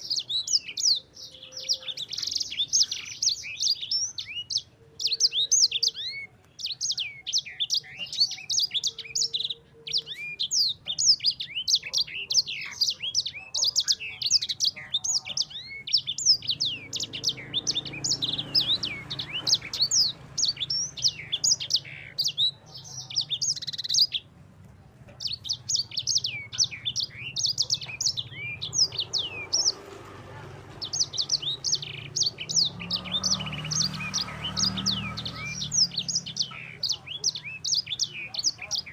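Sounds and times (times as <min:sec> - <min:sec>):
songbird singing trills: 0:00.0 - 0:38.9.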